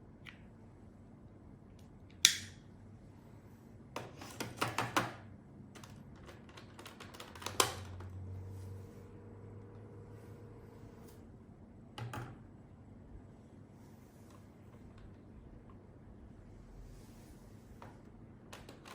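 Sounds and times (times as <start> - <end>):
faint low machine hum: 0.0 - 18.9.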